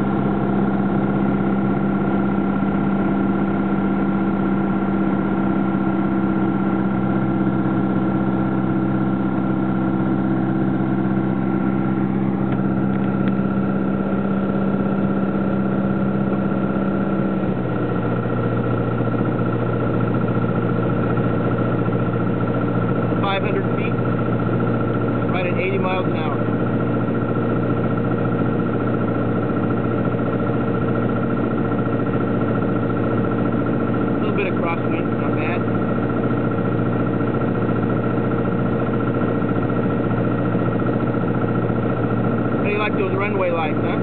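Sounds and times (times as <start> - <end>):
light aircraft engine droning: 0.0 - 44.0.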